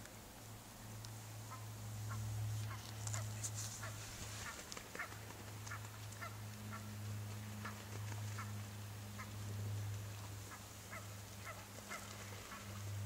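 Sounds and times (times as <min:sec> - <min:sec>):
steady low hum: 0:00.0 - 0:13.0
geese calling: 0:01.4 - 0:13.0.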